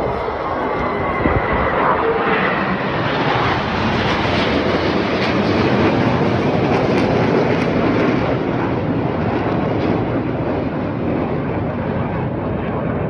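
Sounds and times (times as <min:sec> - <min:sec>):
jet aircraft roar overhead: 0:00.0 - 0:13.0.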